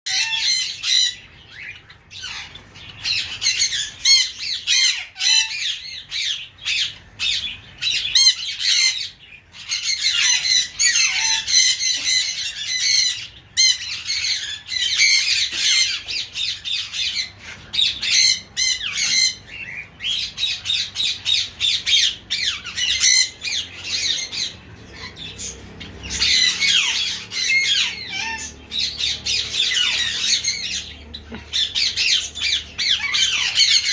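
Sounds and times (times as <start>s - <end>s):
cage birds chattering: 0.1s - 33.9s.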